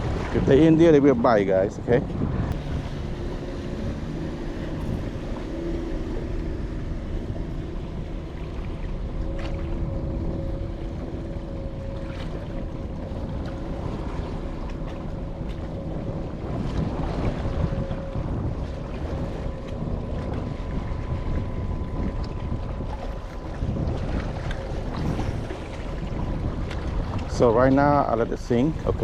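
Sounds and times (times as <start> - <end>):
choppy lake water: 0.0 - 29.0
wind rumbling on microphone: 0.0 - 29.0.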